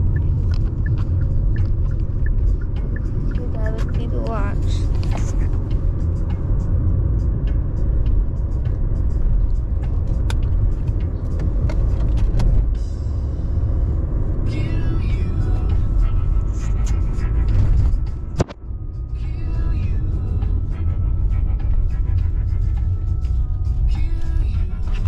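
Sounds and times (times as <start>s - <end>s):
car road rumble: 0.0s - 25.0s
music playing: 0.0s - 25.0s.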